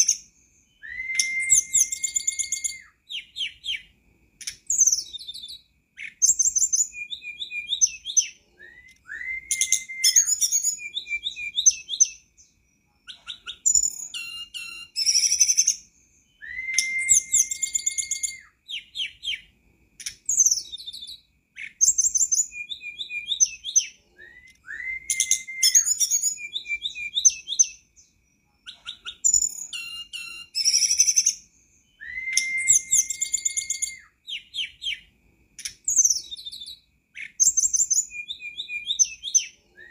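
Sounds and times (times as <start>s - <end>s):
bird singing chirps and whistle: 0.0s - 39.9s.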